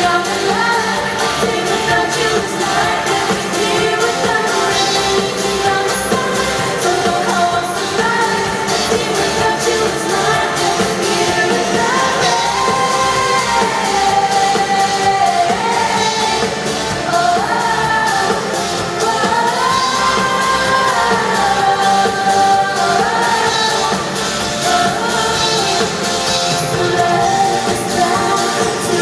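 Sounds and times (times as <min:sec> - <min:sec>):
live band backing: 0:00.0 - 0:29.0.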